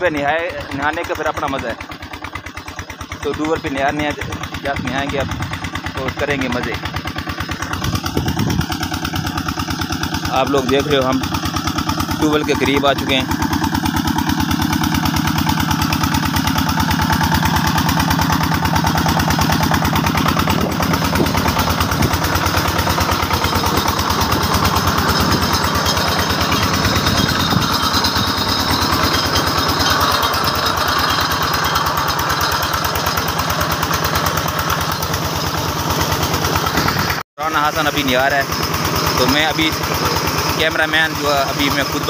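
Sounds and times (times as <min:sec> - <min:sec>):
small diesel engine running: 0:00.0 - 0:42.0.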